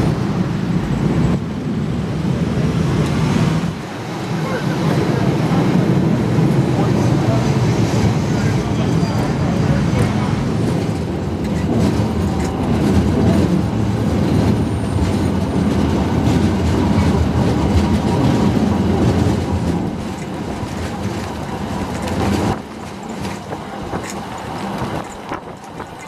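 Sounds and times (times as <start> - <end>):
streetcar rumbling on rails: 0.0 - 26.0.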